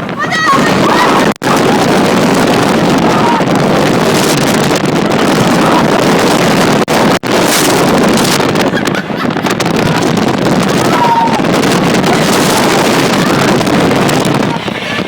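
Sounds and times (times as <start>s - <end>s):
high-speed wind from blower: 0.0s - 15.0s.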